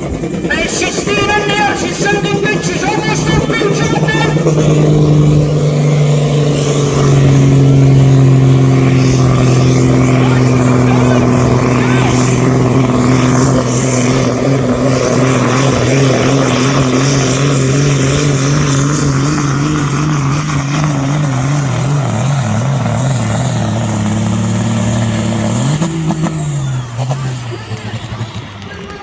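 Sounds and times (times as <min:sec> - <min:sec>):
tractor engine droning under load: 0:00.0 - 0:29.0.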